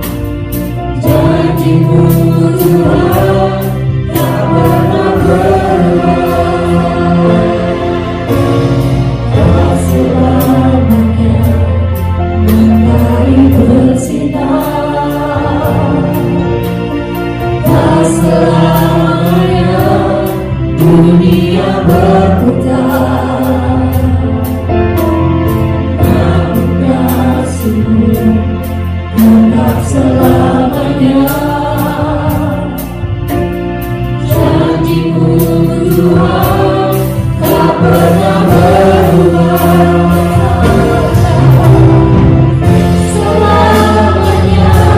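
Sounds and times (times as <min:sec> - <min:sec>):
bass guitar: 0:00.0 - 0:44.9
drum kit with cymbal hits: 0:00.0 - 0:44.9
group of singers: 0:00.0 - 0:44.9
keyboard: 0:00.0 - 0:44.9.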